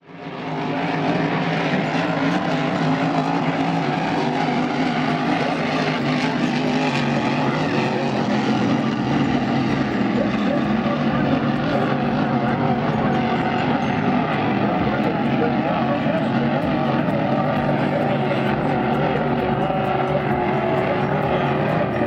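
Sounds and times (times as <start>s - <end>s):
racing boat engines droning: 0.0s - 22.0s.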